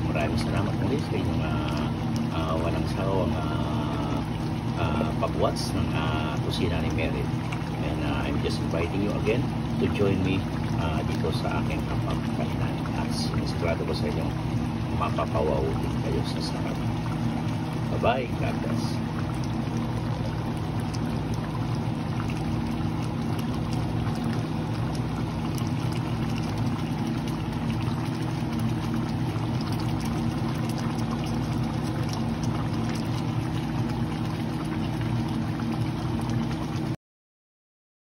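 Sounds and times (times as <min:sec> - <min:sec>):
sauce bubbling in a pan: 0:00.0 - 0:37.0
steady low hum: 0:00.0 - 0:37.0.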